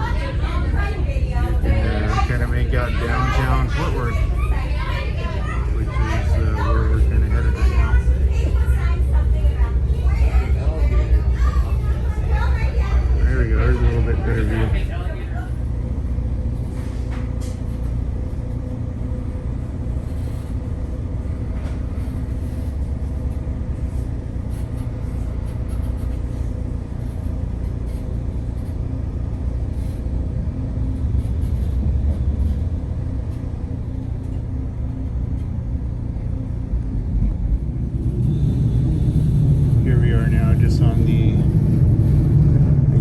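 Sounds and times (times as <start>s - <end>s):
faint steady hum: 0.0s - 43.0s
train rumbling inside passenger car: 0.0s - 43.0s.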